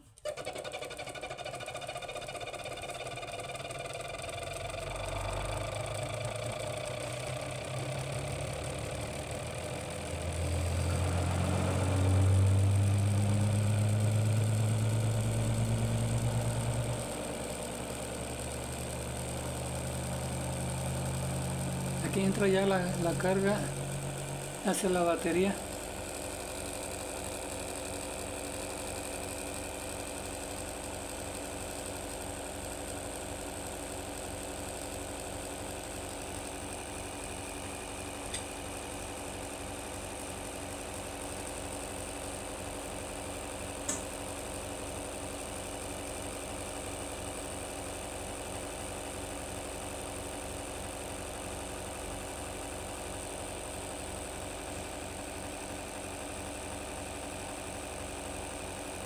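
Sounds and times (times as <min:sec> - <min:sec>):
motor-generator humming: 0:00.0 - 0:59.0.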